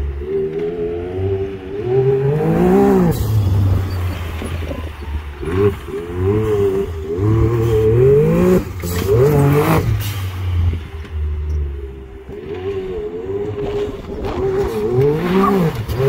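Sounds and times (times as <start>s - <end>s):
utv engine revving: 0.0s - 16.0s.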